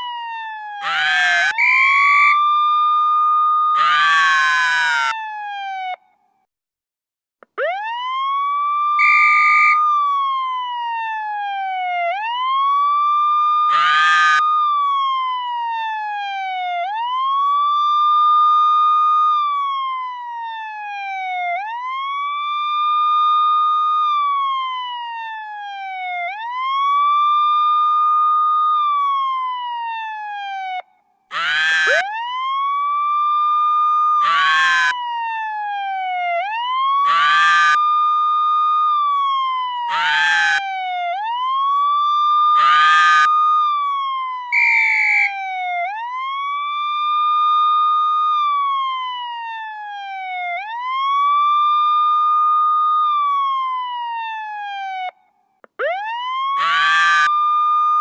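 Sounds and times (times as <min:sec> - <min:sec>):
siren wailing: 0:00.0 - 0:06.2, 0:07.4 - 0:58.0.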